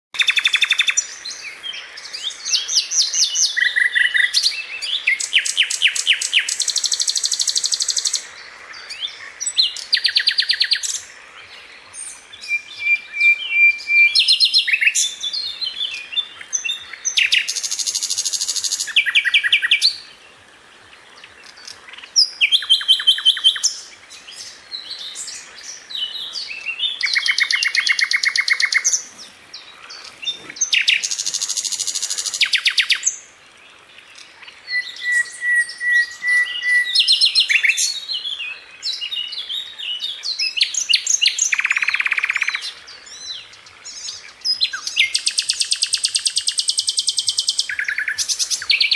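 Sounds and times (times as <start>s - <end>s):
nightingale singing trills: 0.2s - 48.9s.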